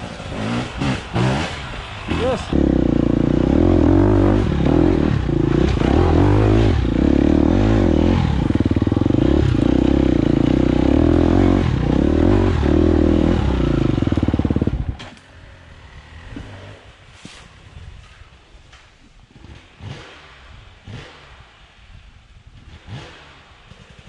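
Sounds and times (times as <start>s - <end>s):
dirt bike engine revving: 0.0s - 17.1s, 19.3s - 21.7s, 22.5s - 24.0s.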